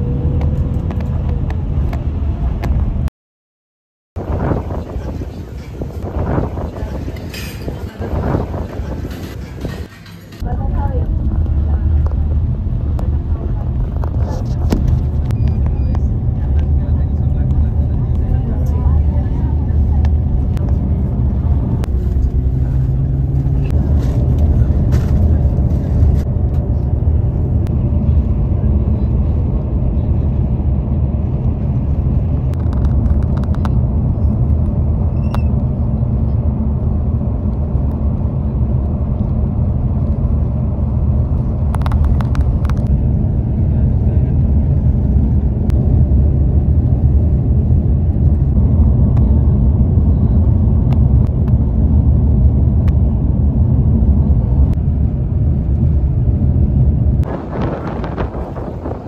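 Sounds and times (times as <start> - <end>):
vehicle engine and tyre noise: 0.0 - 3.1, 4.2 - 59.0.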